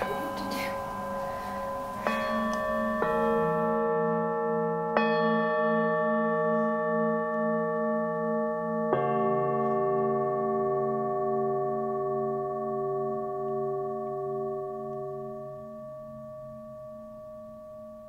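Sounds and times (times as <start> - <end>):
sustained bell-like chords: 0.0 - 18.0.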